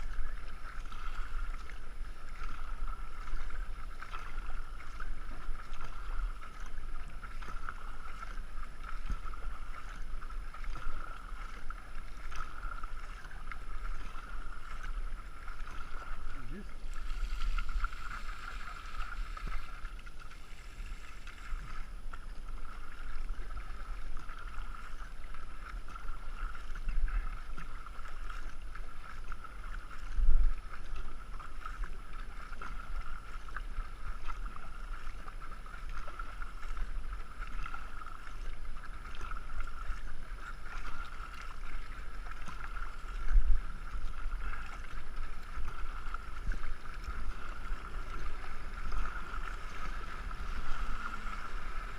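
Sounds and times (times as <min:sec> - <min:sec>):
paddle splashes: 0:00.0 - 0:51.9
water rushing: 0:00.0 - 0:51.9
wind rumbling on microphone: 0:00.0 - 0:51.9.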